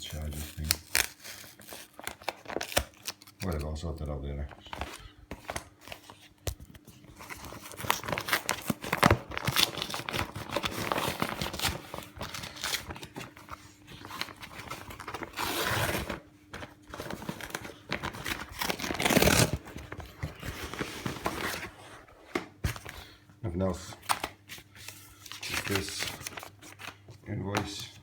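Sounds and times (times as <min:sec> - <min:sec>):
packaging crinkling and ripping: 0:00.0 - 0:22.0, 0:24.0 - 0:27.9.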